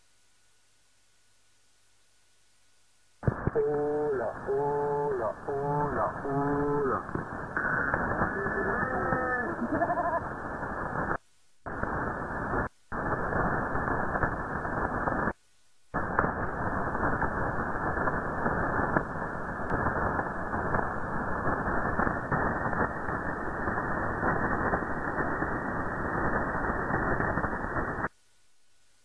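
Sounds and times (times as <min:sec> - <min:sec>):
radio static: 0:03.2 - 0:28.1.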